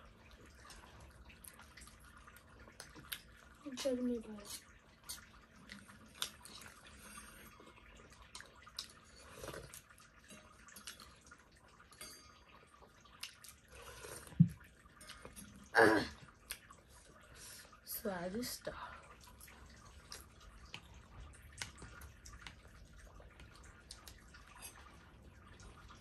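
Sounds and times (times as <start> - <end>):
wet chewing and smacking: 0.1 - 17.3, 19.1 - 26.0.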